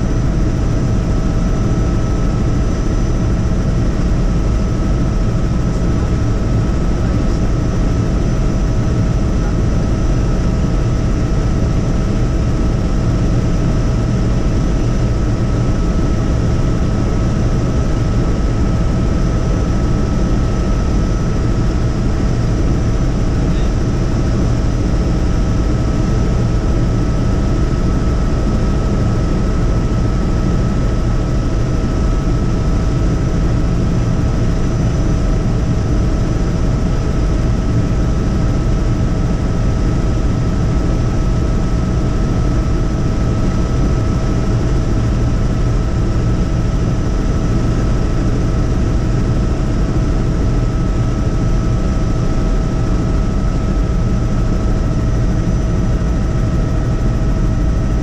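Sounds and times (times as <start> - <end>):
constant whine: 0.0 - 58.0
helicopter rotor and engine drone: 0.0 - 58.0.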